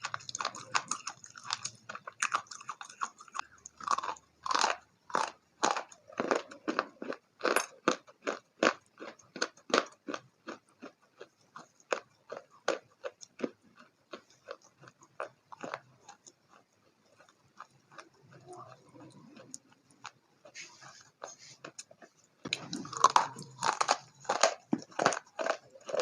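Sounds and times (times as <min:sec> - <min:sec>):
crunchy food being chewed: 0:00.0 - 0:26.0.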